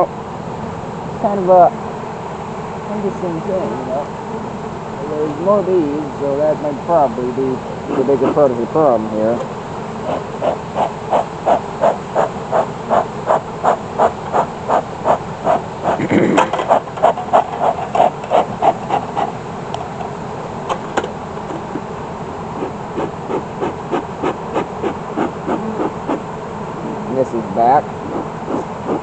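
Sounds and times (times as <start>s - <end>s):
bee smoker bellows puffing: 0.0s - 29.0s.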